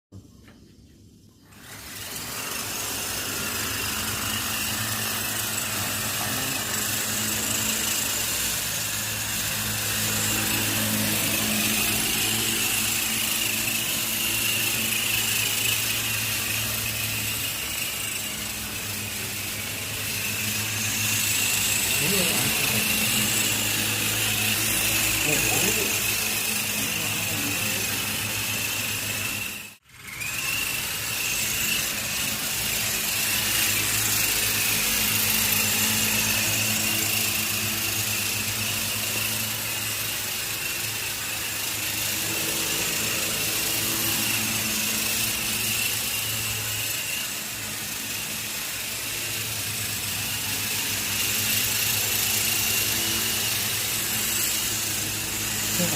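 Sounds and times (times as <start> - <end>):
small electric motors whining: 0.4 - 55.9.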